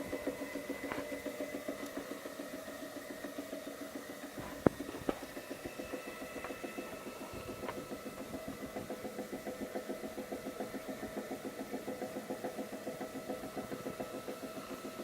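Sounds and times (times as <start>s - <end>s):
vacuum packaging machine humming: 0.0s - 15.0s.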